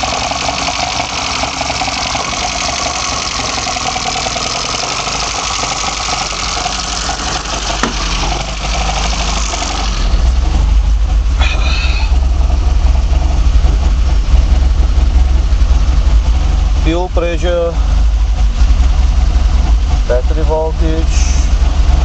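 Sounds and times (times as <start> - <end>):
engine low pulsing: 0.0 - 22.0.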